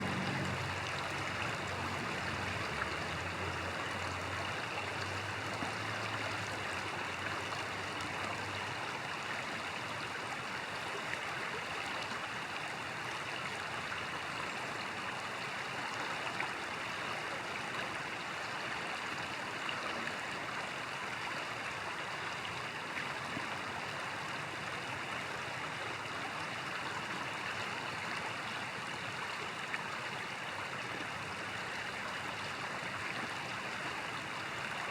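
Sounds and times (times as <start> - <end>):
flowing stream rushing: 0.0 - 34.9.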